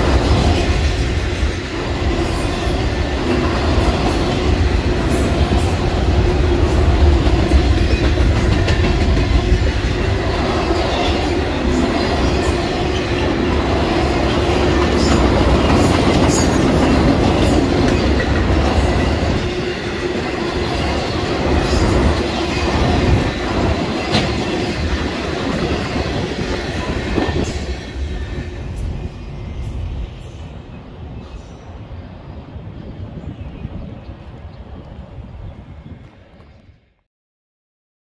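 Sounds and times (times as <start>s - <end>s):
train wheels rumbling on rails: 0.0s - 36.6s.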